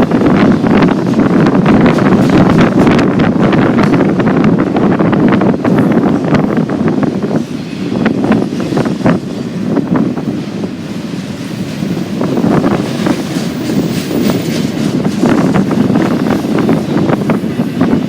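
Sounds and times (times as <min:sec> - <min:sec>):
freight train rumbling past: 0:00.0 - 0:18.0
wind buffeting microphone: 0:00.0 - 0:18.0.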